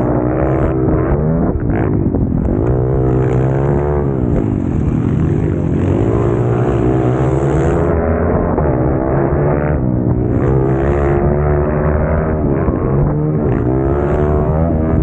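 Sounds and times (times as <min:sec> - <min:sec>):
pit bike engine revving: 0:00.0 - 0:15.0.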